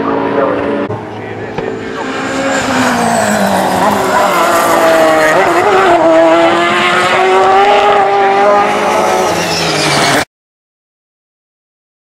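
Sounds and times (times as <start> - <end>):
race car engine at high revs: 0.0 - 10.3.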